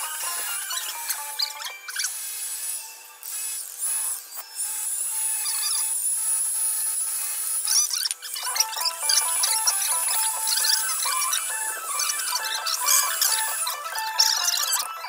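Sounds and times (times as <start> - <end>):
rotary carving tool whine: 0.0 - 15.0.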